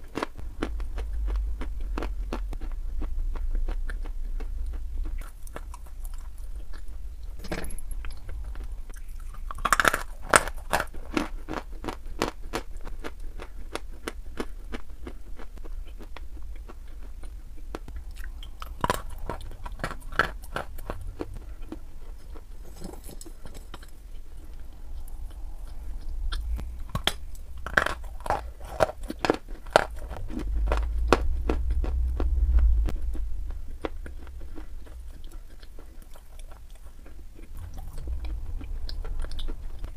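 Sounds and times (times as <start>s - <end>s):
person chewing crunchy chalk: 0.0s - 39.9s.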